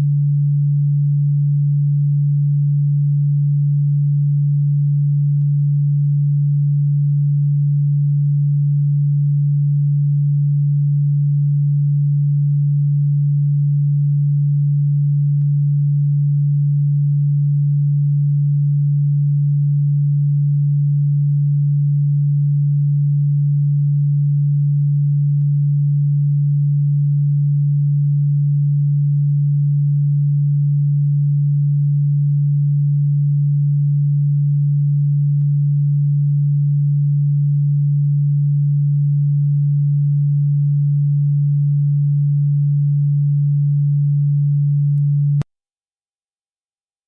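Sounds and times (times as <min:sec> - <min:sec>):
low electronic tone: 0:00.0 - 0:45.5.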